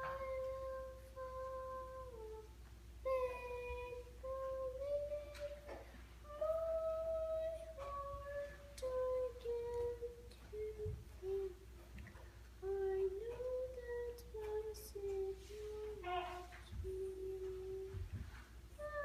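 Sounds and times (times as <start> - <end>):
child singing slow melody: 0.0 - 11.8, 12.6 - 19.0.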